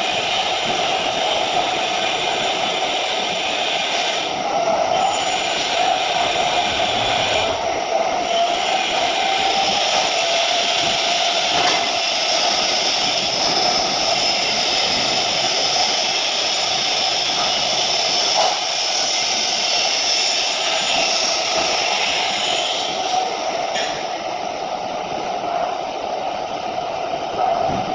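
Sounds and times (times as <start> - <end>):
welding arc hissing and whining: 0.0 - 27.9.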